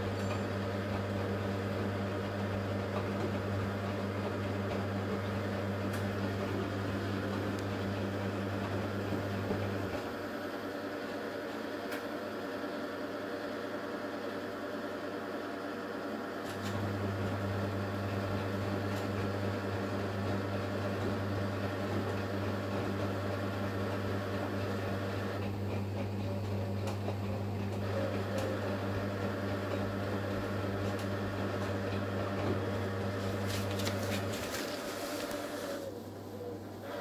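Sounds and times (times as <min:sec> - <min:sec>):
washing machine drum motor hum: 0:00.0 - 0:37.0.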